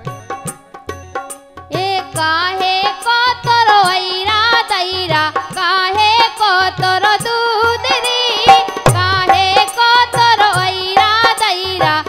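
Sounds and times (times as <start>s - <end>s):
dholak drum strikes: 0.0s - 12.0s
harmonium: 0.0s - 12.0s
woman singing a folk song: 1.7s - 12.0s.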